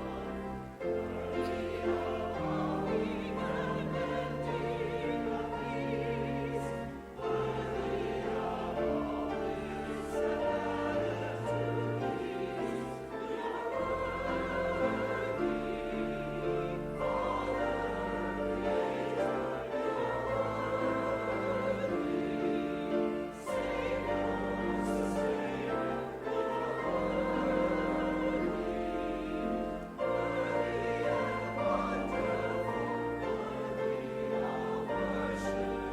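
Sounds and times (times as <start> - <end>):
voices singing with vibrato: 0.0 - 35.9.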